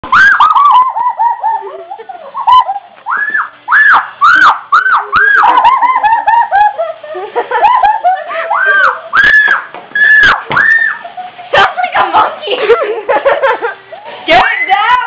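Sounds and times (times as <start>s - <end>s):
girls laughing in high hoots: 0.0s - 11.8s, 12.4s - 14.2s.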